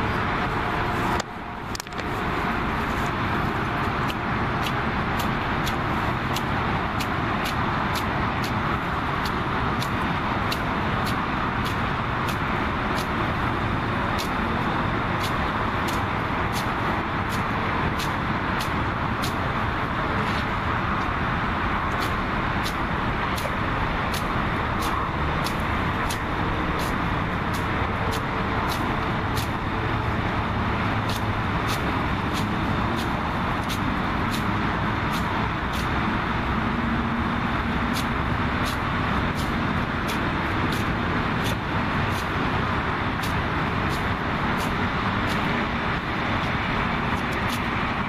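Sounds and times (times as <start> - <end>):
distant road traffic: 0.0 - 48.0.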